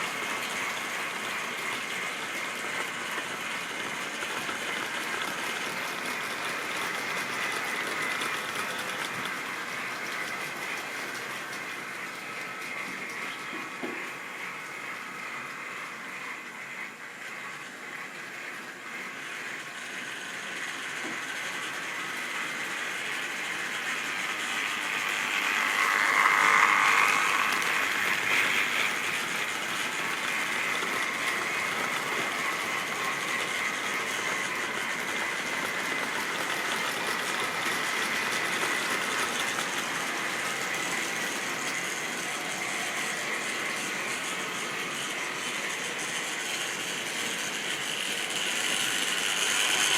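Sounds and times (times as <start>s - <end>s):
model train motor whine: 0.0s - 49.9s
wheels rattling on rail: 0.0s - 49.9s.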